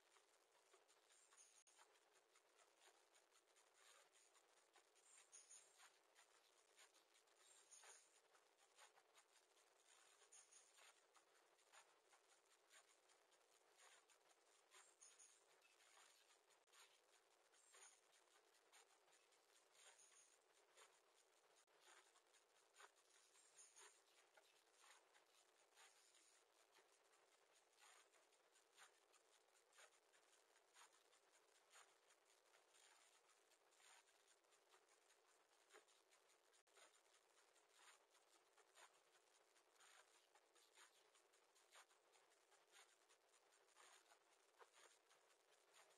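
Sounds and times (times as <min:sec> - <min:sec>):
faint scratchy ticks: 0:00.0 - 0:45.9.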